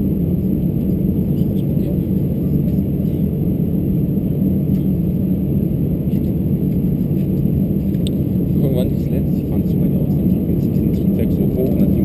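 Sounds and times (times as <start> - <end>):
airplane cabin rumble and hum: 0.0 - 12.0.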